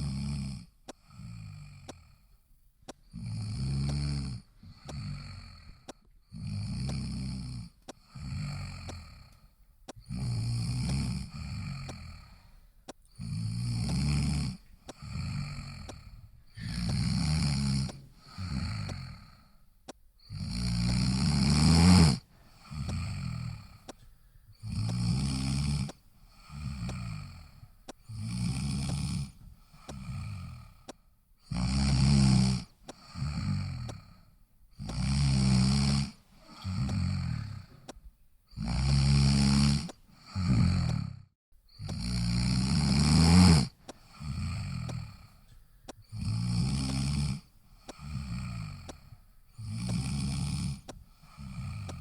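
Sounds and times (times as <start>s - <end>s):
person snoring: 0.0s - 52.0s.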